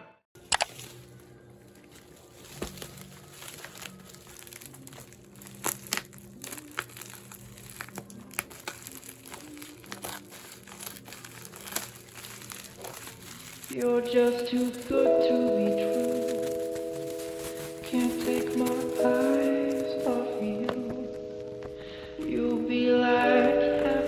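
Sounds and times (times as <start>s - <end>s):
packaging crinkling: 0.4s - 24.0s.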